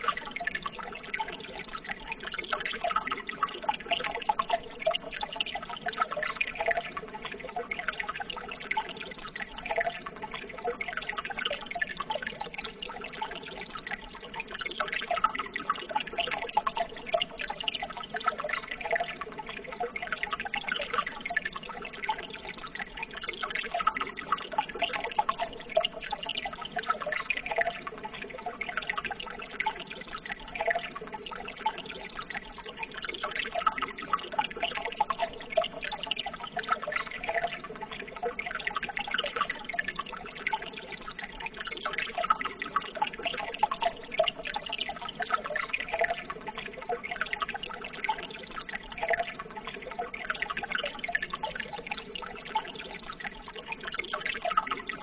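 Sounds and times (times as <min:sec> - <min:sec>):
water running and trickling: 0:00.0 - 0:55.0.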